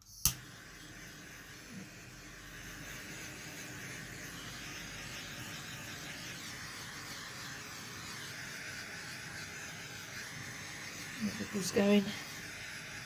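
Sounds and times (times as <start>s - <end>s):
butane torch hissing: 0.3s - 13.0s.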